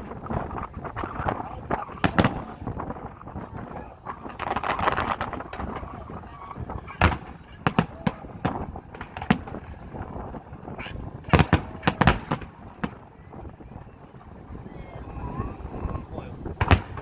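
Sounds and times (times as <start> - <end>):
aerial fireworks bangs: 0.0 - 17.0.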